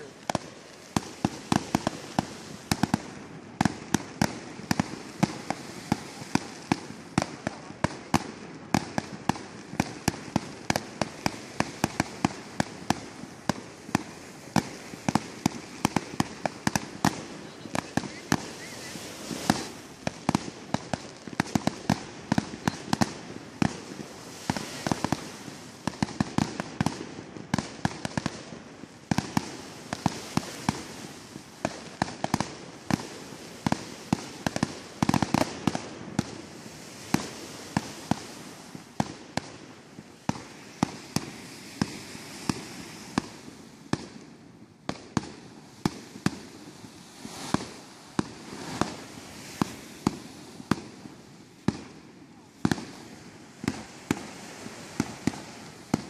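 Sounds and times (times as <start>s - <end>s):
fireworks bangs and pops: 0.0s - 56.0s
fireworks crackle: 0.0s - 56.0s.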